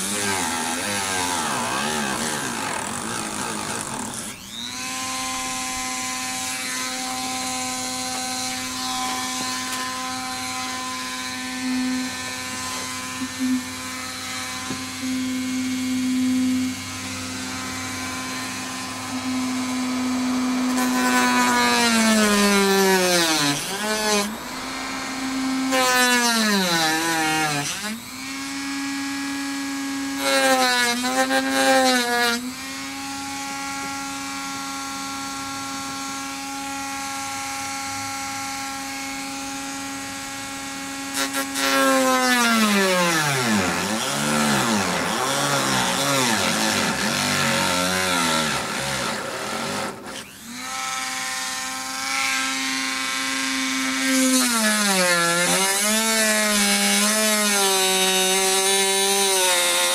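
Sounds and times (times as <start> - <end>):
rotary tool whining: 0.0 - 38.2, 38.8 - 59.9.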